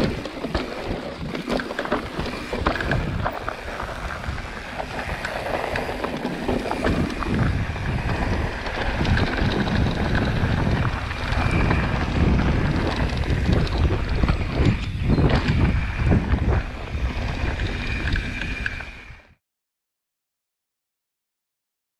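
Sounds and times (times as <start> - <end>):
tyres rolling over dirt: 0.0 - 19.1
bike rattling over bumps: 0.0 - 19.3
wind buffeting microphone: 0.0 - 19.4.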